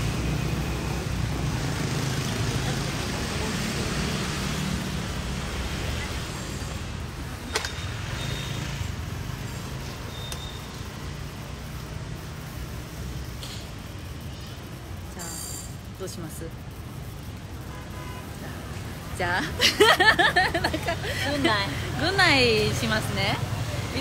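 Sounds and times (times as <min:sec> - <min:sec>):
street traffic rumble: 0:00.0 - 0:24.0.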